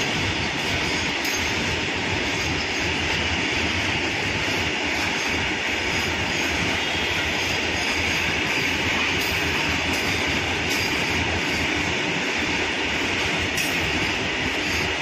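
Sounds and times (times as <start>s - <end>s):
train wheels running on rails: 0.0s - 15.0s.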